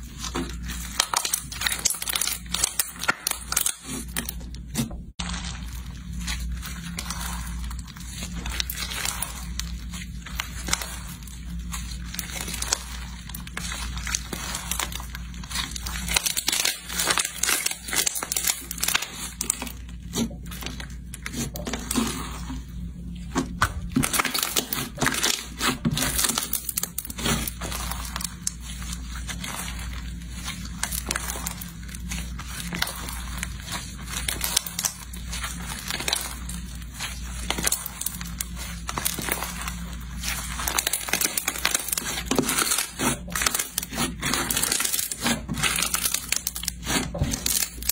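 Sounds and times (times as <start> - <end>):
crunchy slime crackling: 0.0 - 47.9
steady low hum: 0.0 - 47.9.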